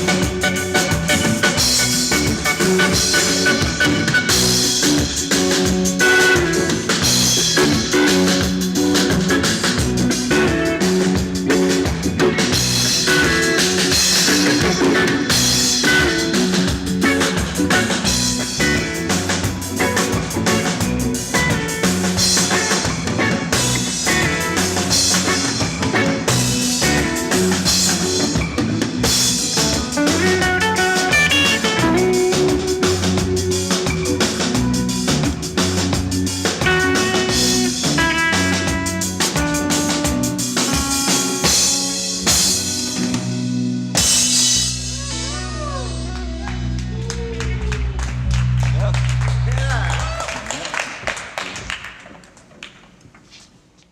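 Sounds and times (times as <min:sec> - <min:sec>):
drum kit with cymbal wash: 0:00.0 - 0:46.8
electric guitar notes: 0:00.0 - 0:50.1
band playing: 0:00.0 - 0:50.5
bass guitar: 0:00.0 - 0:50.8.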